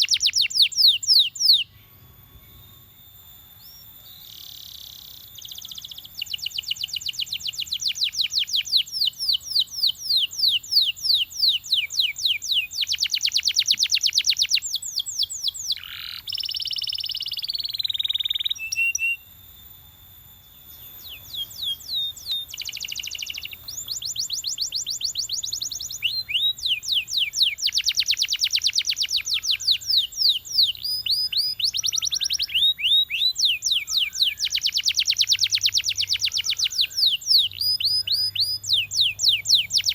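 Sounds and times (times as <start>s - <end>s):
canary trilling: 0.0s - 1.8s, 3.6s - 19.2s, 21.1s - 39.9s.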